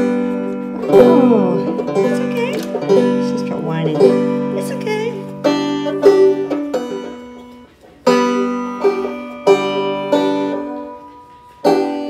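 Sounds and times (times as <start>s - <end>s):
banjo strummed slowly: 0.0s - 12.0s.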